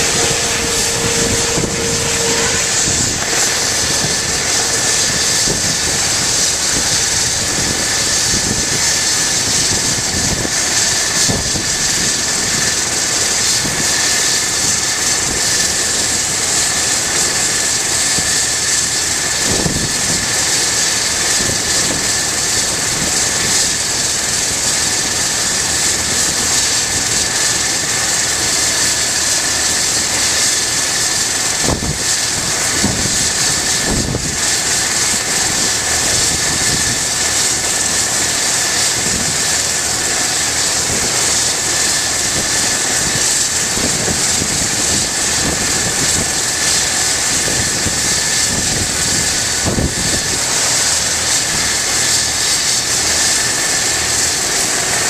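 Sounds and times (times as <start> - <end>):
helicopter turbine whine: 0.0 - 55.0.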